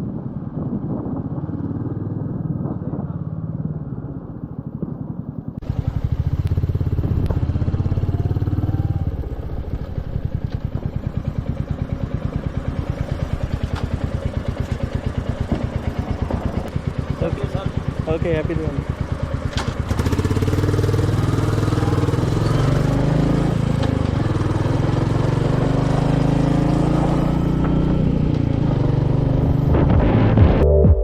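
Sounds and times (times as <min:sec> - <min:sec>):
motorcycle engine running: 0:00.0 - 0:30.6.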